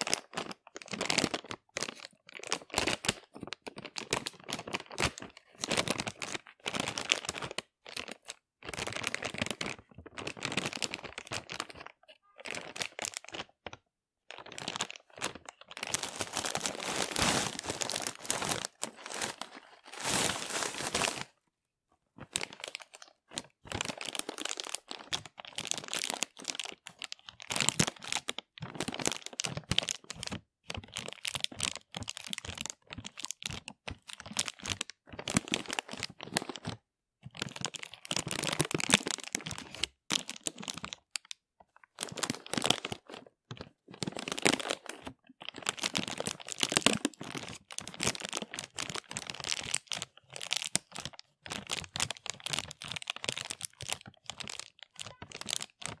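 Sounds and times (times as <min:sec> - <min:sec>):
plastic crinkling: 0:00.0 - 0:21.4, 0:22.2 - 0:56.0.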